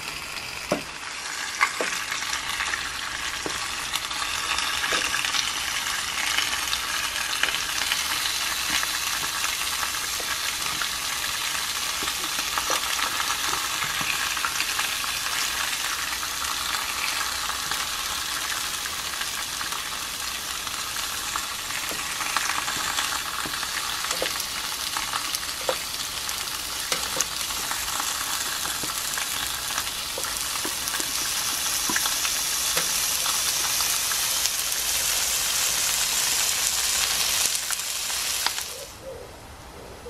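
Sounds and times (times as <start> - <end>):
potato slices sizzling in oil: 0.0 - 38.9.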